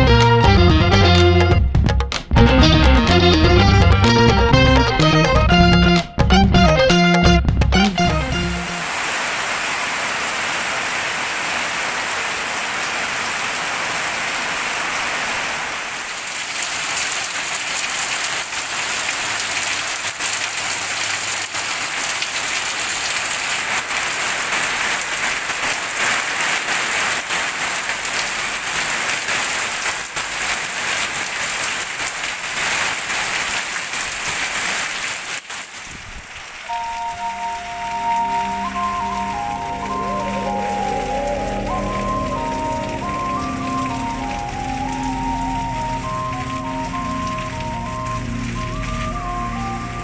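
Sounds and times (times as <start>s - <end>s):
heavy rain falling: 6.6s - 50.0s.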